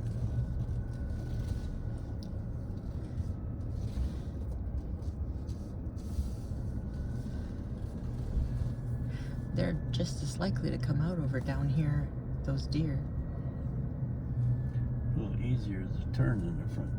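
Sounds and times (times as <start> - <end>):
car engine and tyres rumbling: 0.0 - 16.9.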